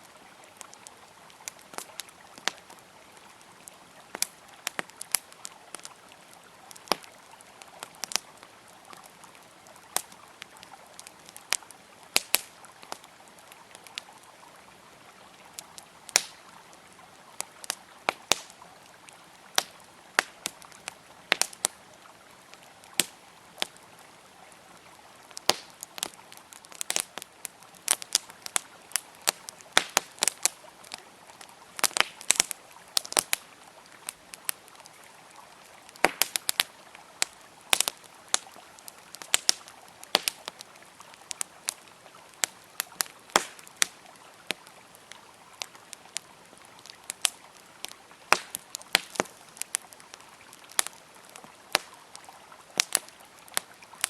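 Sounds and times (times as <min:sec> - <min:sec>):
flowing river water: 0:00.0 - 0:54.0
wood fire crackling: 0:00.0 - 0:54.0.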